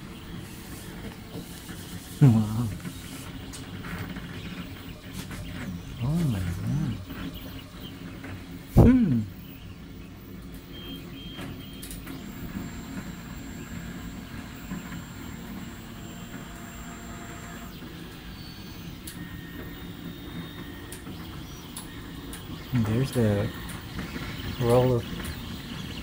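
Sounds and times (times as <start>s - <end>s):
high whining motor tones: 0.0s - 26.0s
printer low hum: 0.0s - 26.0s.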